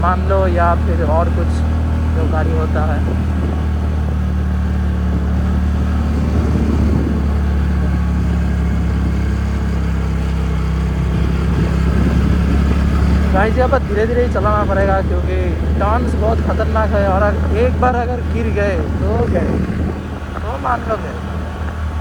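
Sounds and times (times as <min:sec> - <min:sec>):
scooter engine running: 0:00.0 - 0:22.0
wind and road noise: 0:00.0 - 0:22.0.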